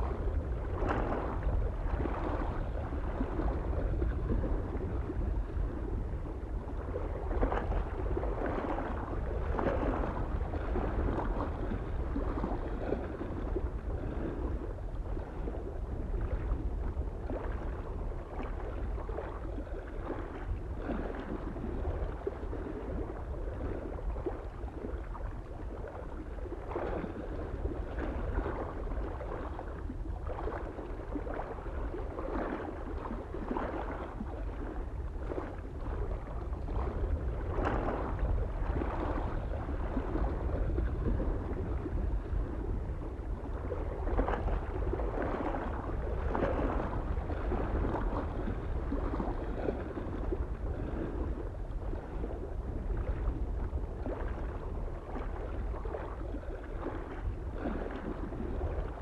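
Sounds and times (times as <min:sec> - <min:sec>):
waves lapping against shore: 0:00.0 - 0:59.0
wind rumble on microphone: 0:00.0 - 0:59.0.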